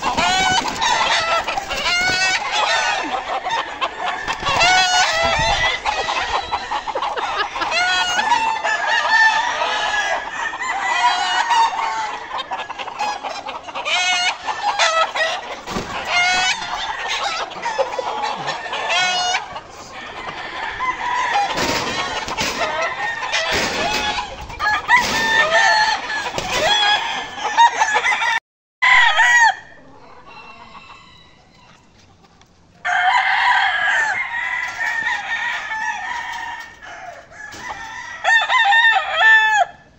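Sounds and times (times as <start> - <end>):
roosters crowing and clucking: 0.0 - 39.9.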